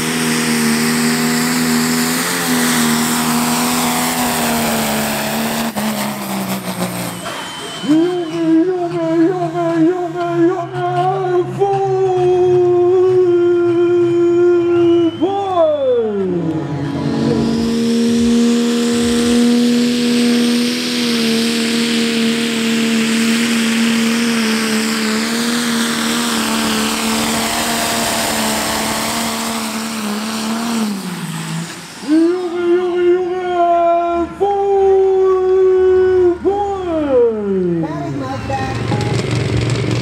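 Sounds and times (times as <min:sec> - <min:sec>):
diesel engine under load: 0:00.0 - 0:40.0.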